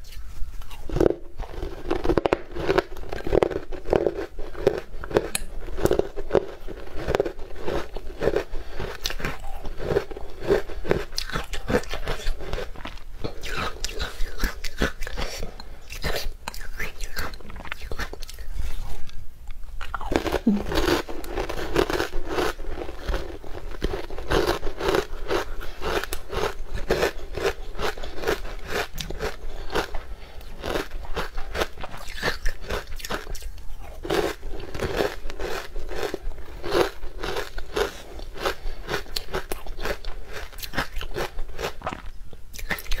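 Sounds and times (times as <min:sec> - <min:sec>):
crunching and chewing food: 0:00.0 - 0:43.0.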